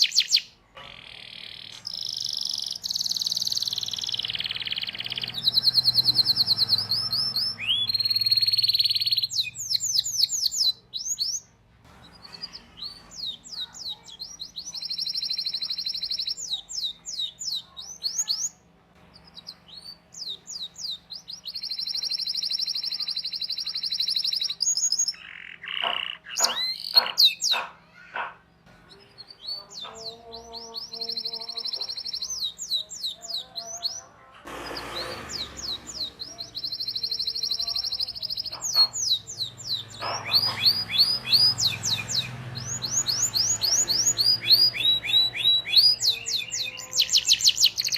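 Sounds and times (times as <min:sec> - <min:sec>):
canary singing: 0:00.0 - 0:47.9.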